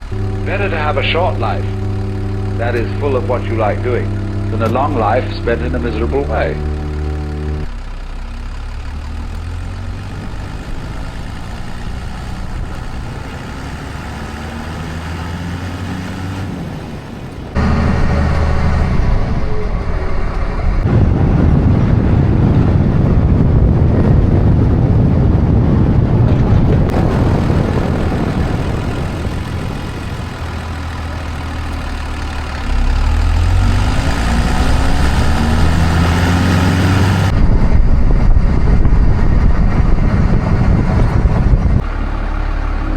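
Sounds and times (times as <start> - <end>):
vehicle engine revving: 0.0 - 42.9.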